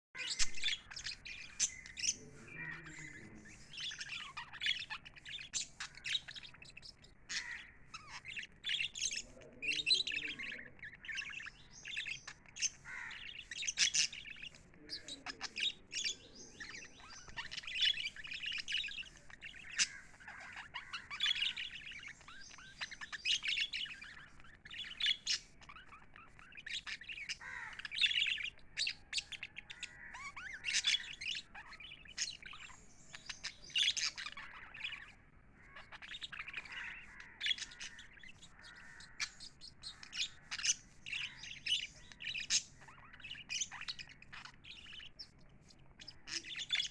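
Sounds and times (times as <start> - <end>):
parrots chirping and chattering: 0.2 - 46.9
loud parrot calls: 7.3 - 45.3.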